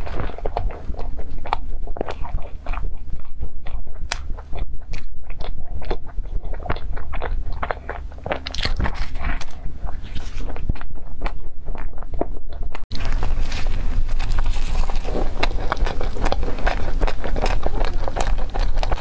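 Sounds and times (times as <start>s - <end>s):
wet mouth clicks: 0.0s - 12.8s, 13.7s - 19.0s
chewing and soft crunches: 0.0s - 19.0s
steady low hum: 0.0s - 19.0s.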